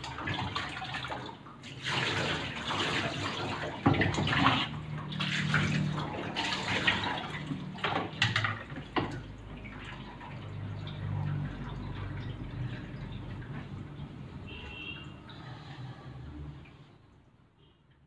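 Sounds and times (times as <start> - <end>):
water running and splashing: 0.0 - 16.9.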